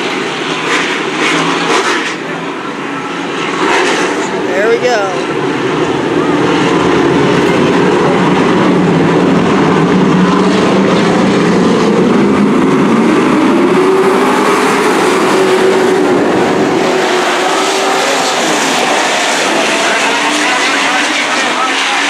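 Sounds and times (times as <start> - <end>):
engine accelerating: 0.0 - 22.0
racing truck engines: 0.0 - 22.0.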